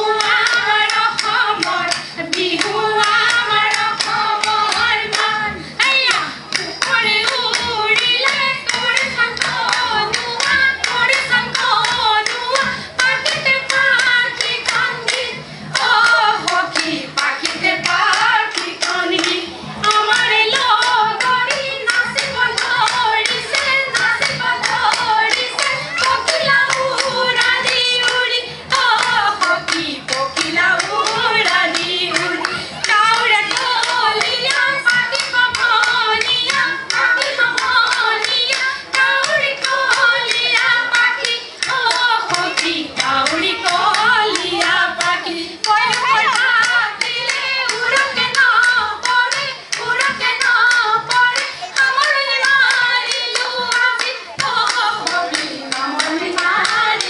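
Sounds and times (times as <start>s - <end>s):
rhythmic hand clapping: 0.0s - 57.0s
women singing in chorus: 0.0s - 57.0s.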